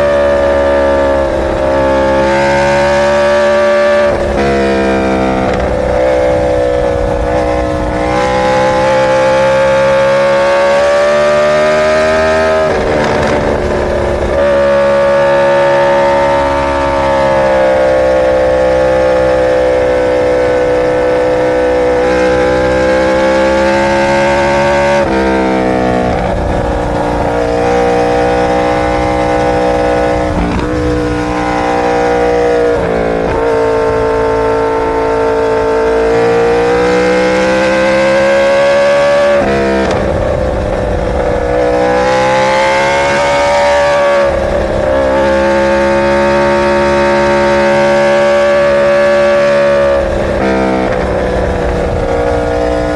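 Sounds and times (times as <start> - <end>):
motorcycle engine revving high: 0.0 - 52.9.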